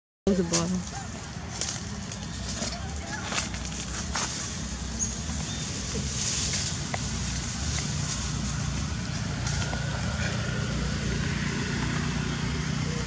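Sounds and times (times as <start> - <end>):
vehicle engine rumbling: 0.3 - 13.0.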